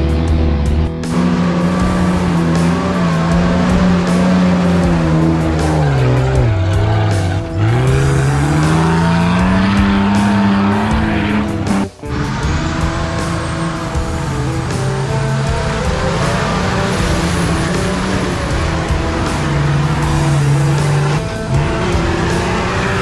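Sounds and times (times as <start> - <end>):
engine revving under load: 0.0 - 23.0.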